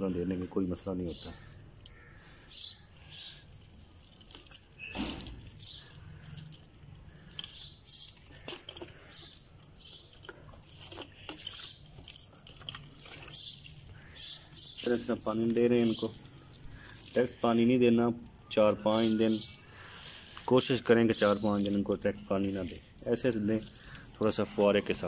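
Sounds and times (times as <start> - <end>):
small birds chirping: 0.0 - 25.0
water pattering on soil: 0.4 - 25.0.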